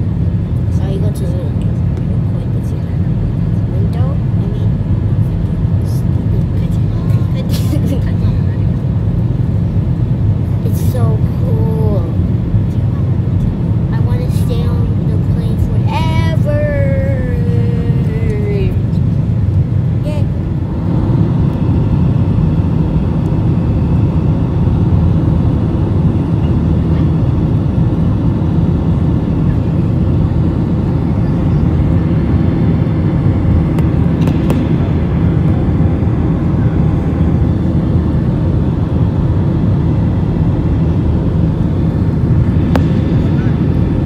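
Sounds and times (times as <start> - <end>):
jet engines roaring in cabin: 0.0 - 44.0.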